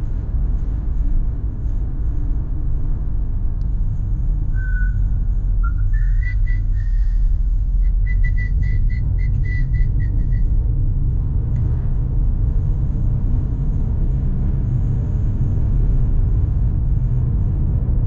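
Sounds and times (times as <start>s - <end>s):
car cabin road and engine rumble: 0.0s - 18.0s.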